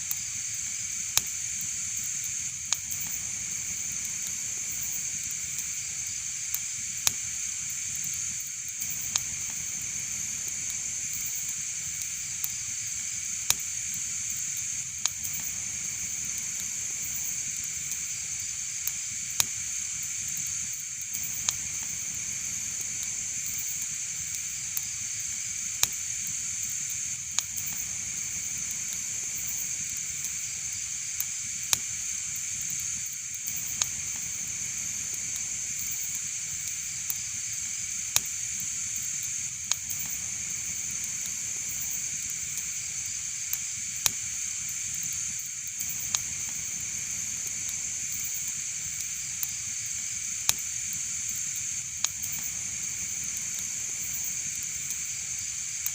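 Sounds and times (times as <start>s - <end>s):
wood fire crackling and hissing: 0.0s - 55.9s.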